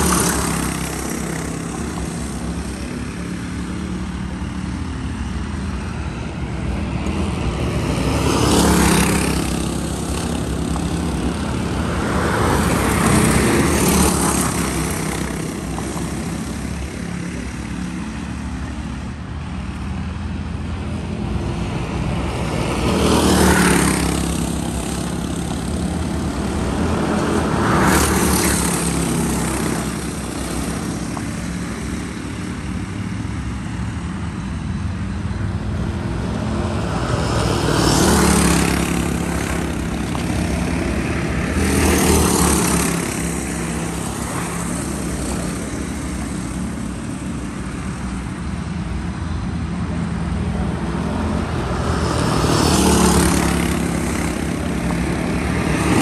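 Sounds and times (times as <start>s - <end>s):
go-kart engines buzzing past: 0.0s - 56.0s.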